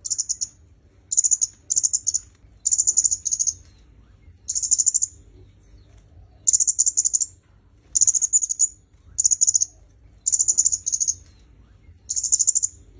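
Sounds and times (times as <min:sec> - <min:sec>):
bird calling high ticking notes: 0:00.0 - 0:05.2, 0:06.4 - 0:07.4, 0:08.0 - 0:12.9.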